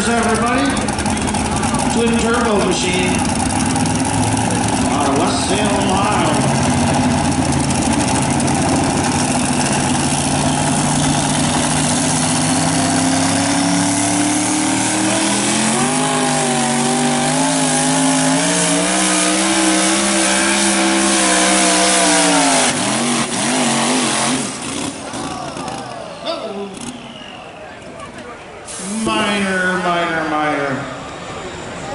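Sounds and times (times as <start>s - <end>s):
truck engine at full throttle: 0.0s - 31.9s.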